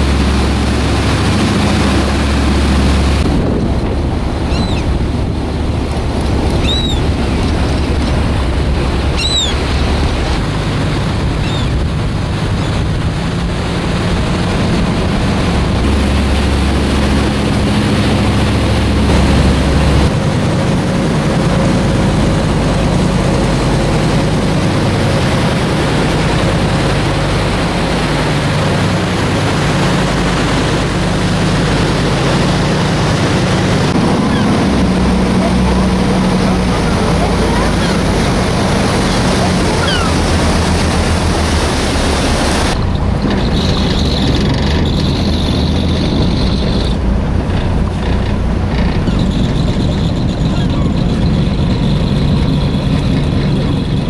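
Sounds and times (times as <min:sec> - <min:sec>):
boat engine running: 0:00.0 - 0:54.0
water rushing: 0:00.0 - 0:54.0
wind on microphone: 0:00.0 - 0:54.0.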